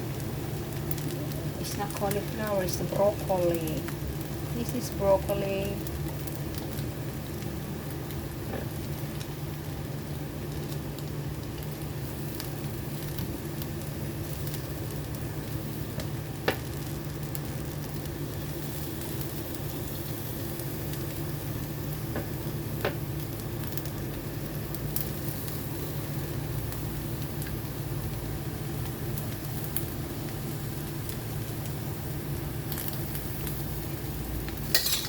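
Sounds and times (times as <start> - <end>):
food sizzling in frying pan: 0.0 - 35.0.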